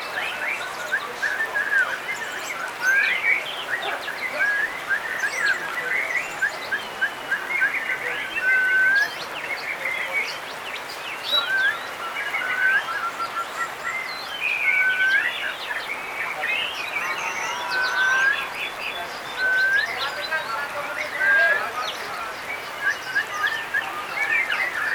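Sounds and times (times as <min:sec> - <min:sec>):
songbirds singing: 0:00.0 - 0:24.9.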